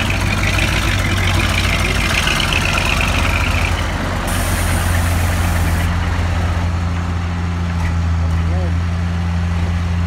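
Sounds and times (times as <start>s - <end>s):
dump truck diesel engine: 0.0s - 10.0s.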